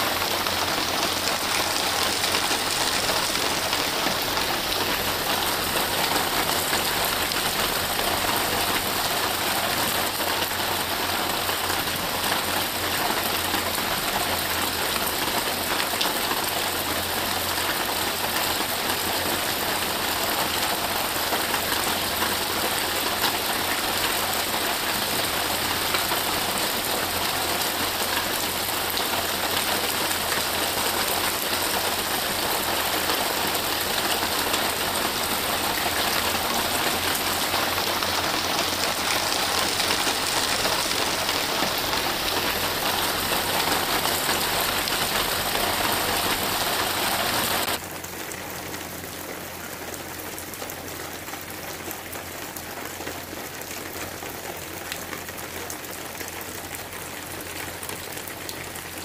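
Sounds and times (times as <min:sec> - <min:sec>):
rain hissing: 0:00.0 - 0:47.8.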